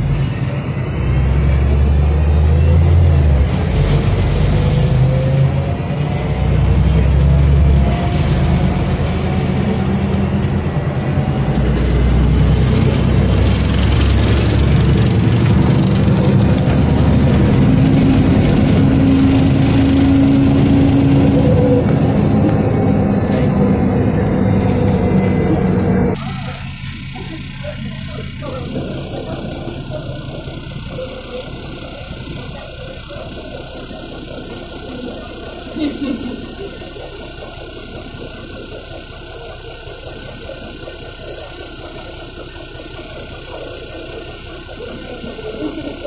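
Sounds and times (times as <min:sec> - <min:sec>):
bus diesel engine rumble: 0:00.0 - 0:46.0.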